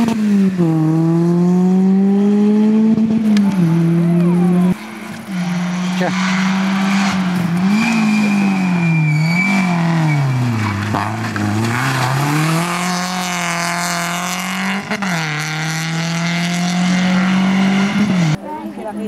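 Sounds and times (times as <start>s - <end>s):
rally car engine revving: 0.0s - 18.4s.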